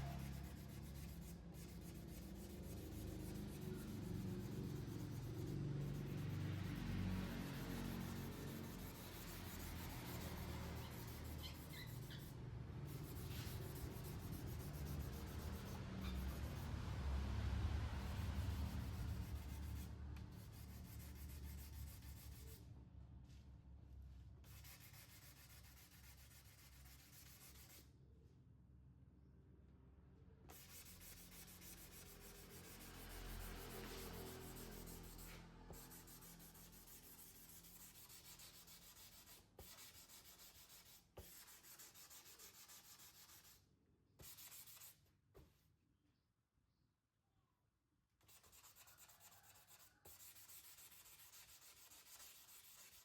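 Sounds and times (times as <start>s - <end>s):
hand sanding with sandpaper: 0.0s - 16.8s, 18.0s - 22.6s, 24.5s - 27.8s, 30.5s - 43.6s, 44.2s - 45.0s, 48.3s - 53.0s.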